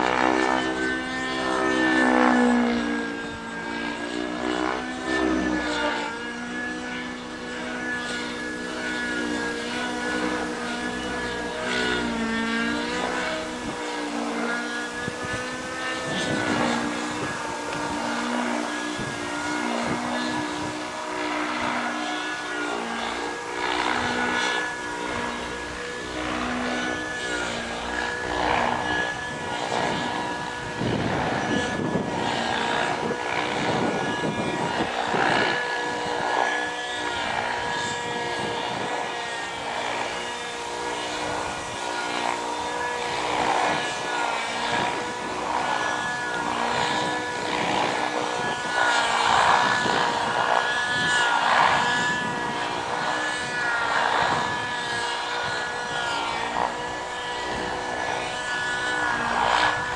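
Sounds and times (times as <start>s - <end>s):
model helicopter engine and rotor: 0.0s - 59.9s.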